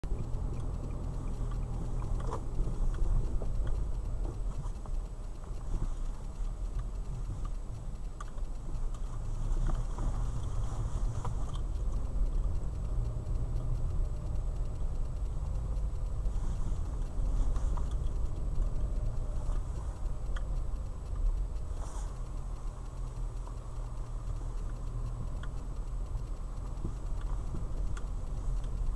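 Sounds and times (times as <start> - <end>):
car driving low rumble: 0.0 - 28.9.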